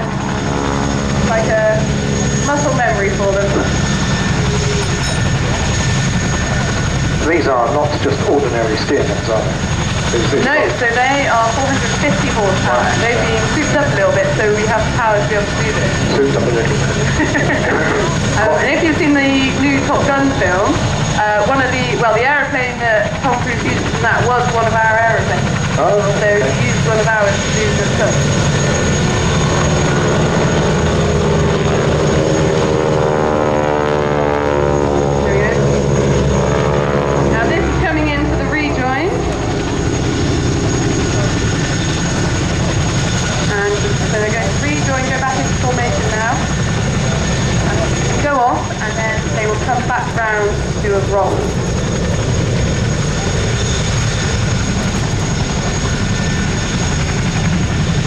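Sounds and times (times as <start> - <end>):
biplane engine and propeller drone: 0.0 - 58.0.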